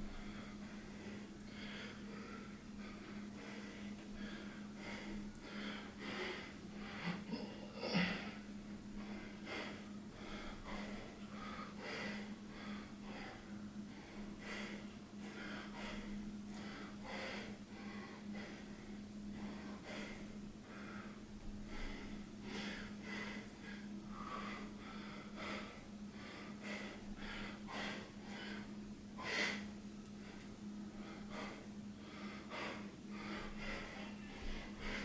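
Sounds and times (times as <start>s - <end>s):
person breathing heavily: 0.0s - 35.0s
steady low hum: 0.0s - 35.0s.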